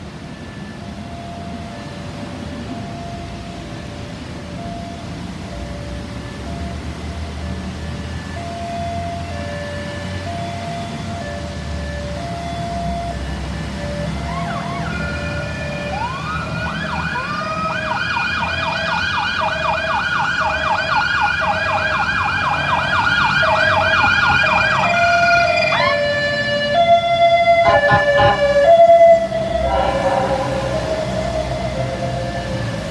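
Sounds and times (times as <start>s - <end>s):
ambulance siren: 0.0s - 32.9s.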